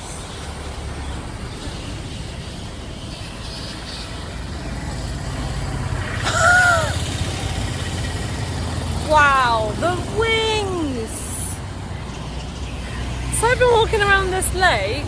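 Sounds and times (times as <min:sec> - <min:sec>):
heavy vehicle: 0:00.0 - 0:15.0
road traffic rumble: 0:00.0 - 0:15.0.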